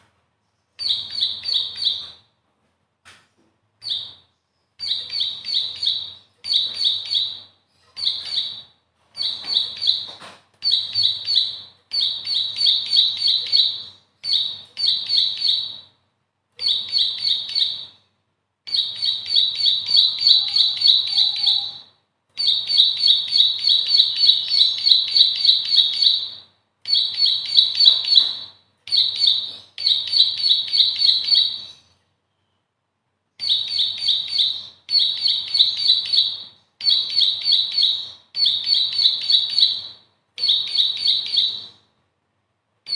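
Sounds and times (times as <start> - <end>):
bird singing rapid high notes: 0.8 - 2.2, 3.8 - 15.9, 16.6 - 18.0, 18.7 - 32.0, 33.4 - 41.8.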